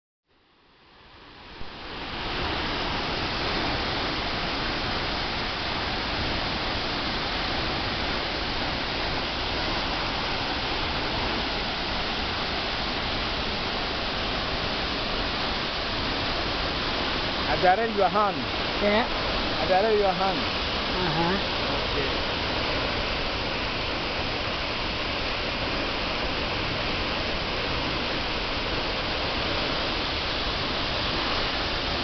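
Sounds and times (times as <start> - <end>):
waterfall pounding down: 1.0 - 32.0.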